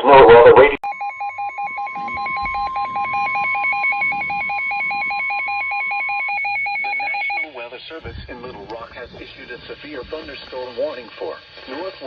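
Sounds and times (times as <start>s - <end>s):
fast warbling electronic beeps: 0.8s - 12.0s
steady high-pitched alarm tone: 0.8s - 12.0s.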